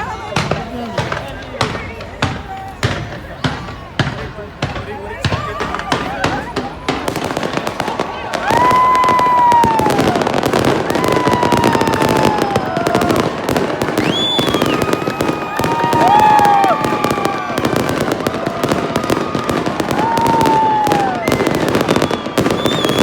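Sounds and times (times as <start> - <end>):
fireworks crackling and popping: 0.0 - 23.0
whistling fireworks: 0.0 - 23.0.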